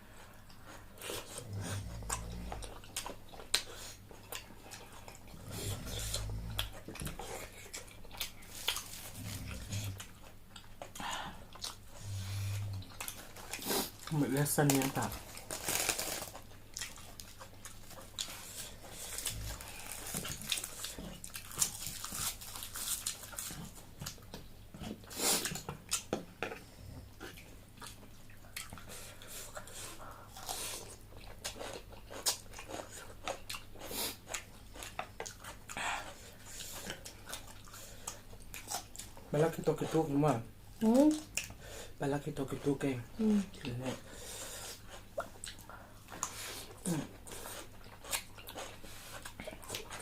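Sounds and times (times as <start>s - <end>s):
chewing and crunching food: 0.0s - 50.0s.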